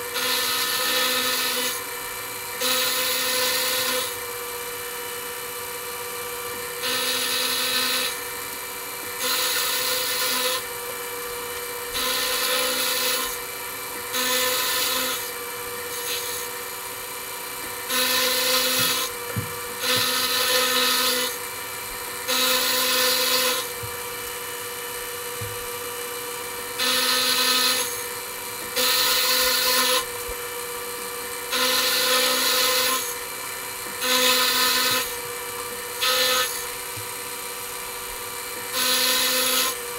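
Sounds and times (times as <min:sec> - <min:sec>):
steady machine hum: 0:00.0 - 0:36.0
metal being cut: 0:00.0 - 0:39.9.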